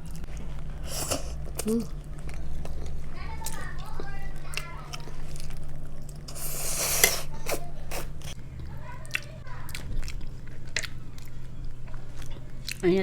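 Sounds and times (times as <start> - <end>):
crunchy chewing of fried food: 0.0 - 13.0.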